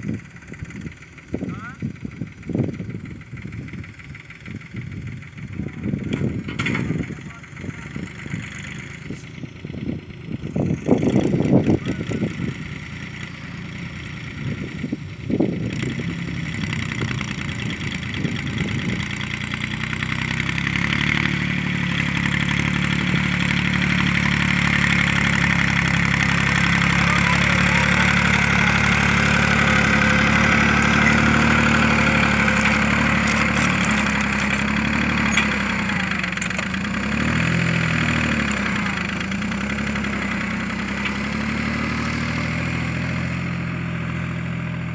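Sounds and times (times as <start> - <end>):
tractor diesel engine labouring: 0.0 - 44.9.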